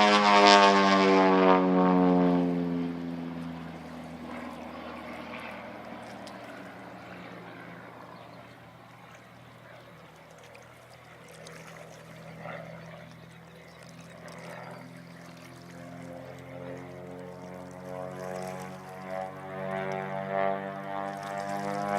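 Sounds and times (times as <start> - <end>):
piston aircraft engine droning: 0.0 - 21.9.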